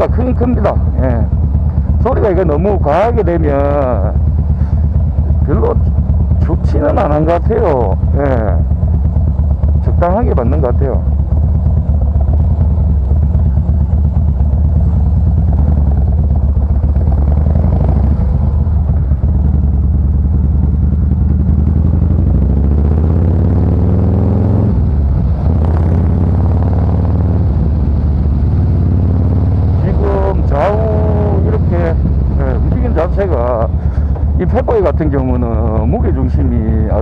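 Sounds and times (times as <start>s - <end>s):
low exhaust rumble: 0.0s - 37.0s
motorcycle engine revving: 0.0s - 37.0s.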